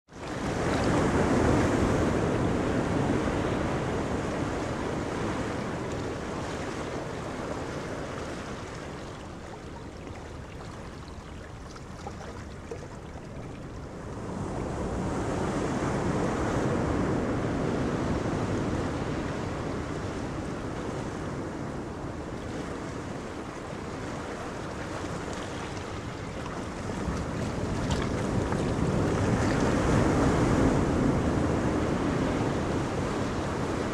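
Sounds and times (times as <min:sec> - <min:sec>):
choppy sea waves: 0:00.1 - 0:33.9
wind gusting on microphone: 0:00.3 - 0:09.5, 0:13.4 - 0:33.9.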